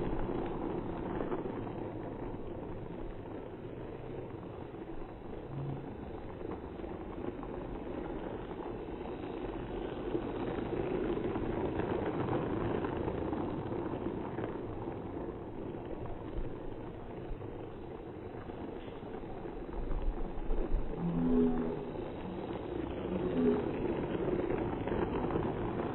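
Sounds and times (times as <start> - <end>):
toy train rumbling hum: 0.0 - 25.9.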